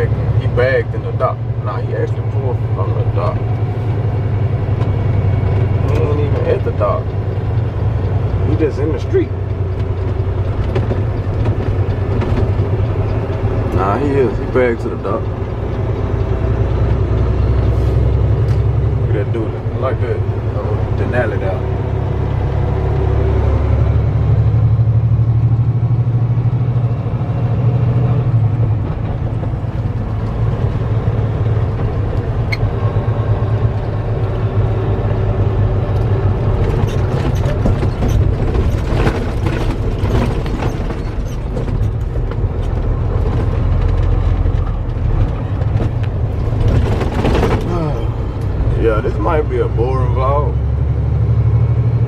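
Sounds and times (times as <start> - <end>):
diesel truck engine droning: 0.0 - 52.0.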